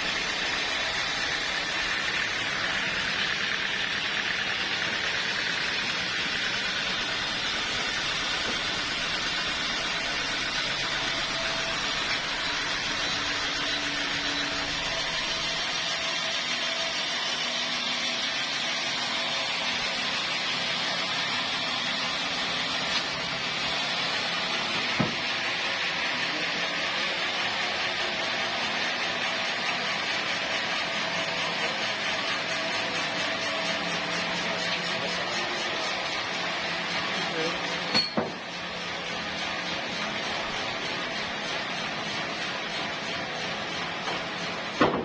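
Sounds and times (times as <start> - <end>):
steady machinery noise: 0.0 - 45.0.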